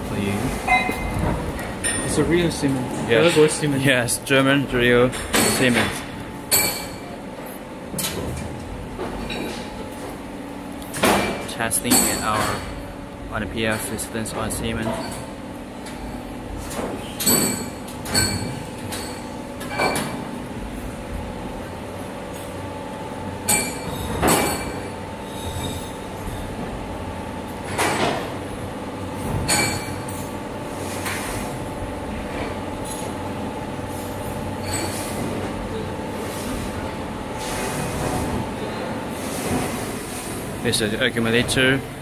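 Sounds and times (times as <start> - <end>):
factory machinery humming: 0.0 - 42.0.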